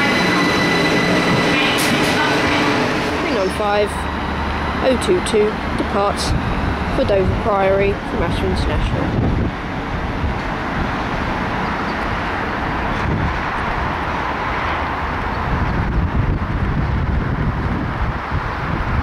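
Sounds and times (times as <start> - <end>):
electric train rumbling: 0.0 - 19.0
wind buffeting microphone: 0.1 - 19.0.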